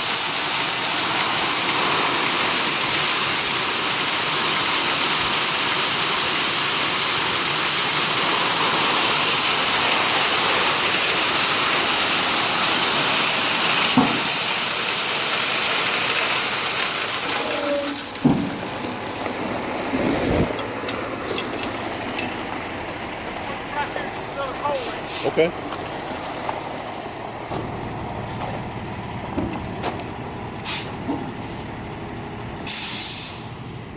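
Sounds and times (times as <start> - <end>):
crushed stone pouring from truck: 0.0 - 28.6.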